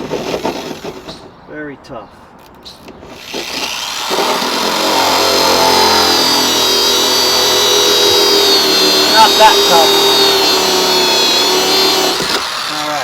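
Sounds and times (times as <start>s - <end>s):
drill cutting through plastic: 0.0s - 1.1s, 3.1s - 13.0s.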